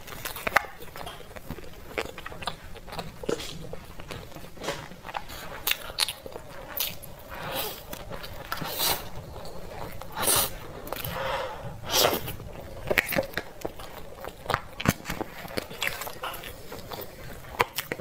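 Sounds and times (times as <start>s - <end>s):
chewing and wet mouth sounds: 0.0s - 18.0s.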